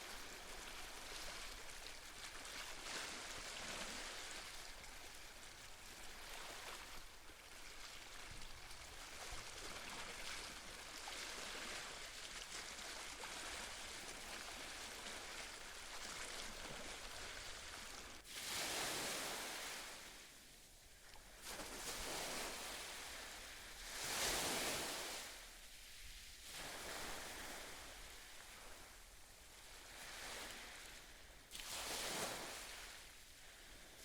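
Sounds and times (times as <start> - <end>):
sea waves washing on shore: 0.0 - 20.6, 21.2 - 34.0.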